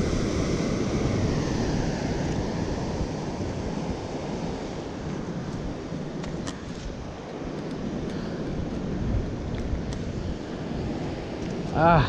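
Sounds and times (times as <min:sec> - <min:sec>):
ocean surf breaking on rocks: 0:00.0 - 0:12.0
wind buffeting microphone: 0:00.0 - 0:12.0.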